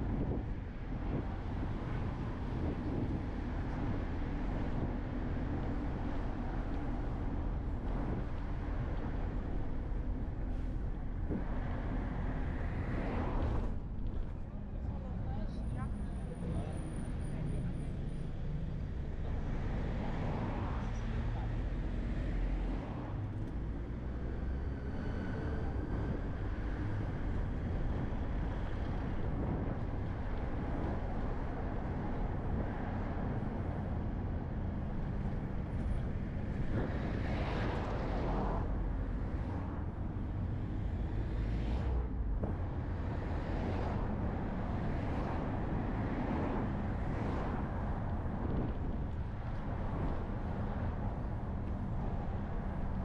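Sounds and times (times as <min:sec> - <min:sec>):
traffic passing: 0:00.0 - 0:53.0
vehicle rumble on road: 0:00.0 - 0:53.0.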